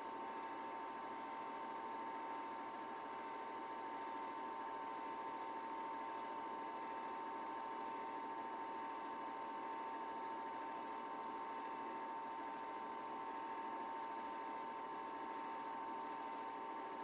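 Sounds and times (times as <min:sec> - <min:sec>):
film projector whirring: 0:00.0 - 0:17.0.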